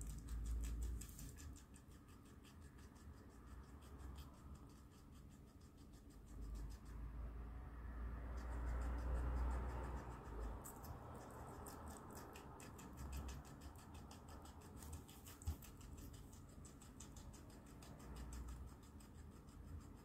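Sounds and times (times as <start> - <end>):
guinea pig chewing crunchily: 0.0 - 20.0.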